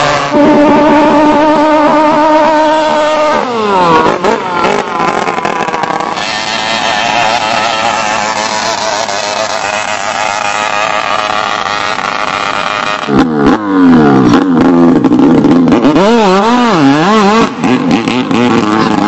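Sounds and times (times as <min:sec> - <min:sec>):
racing boat engine at high revs: 0:00.0 - 0:19.0.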